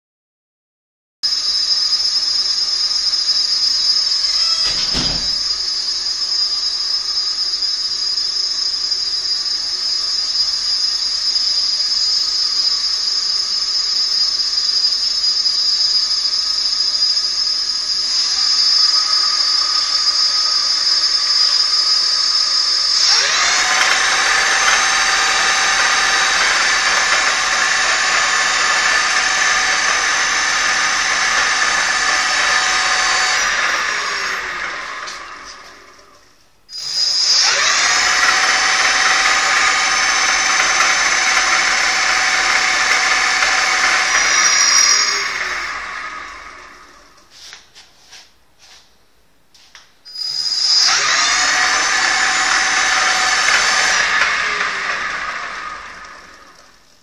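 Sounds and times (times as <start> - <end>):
electric motor whine: 1.3 - 47.3, 50.2 - 56.9.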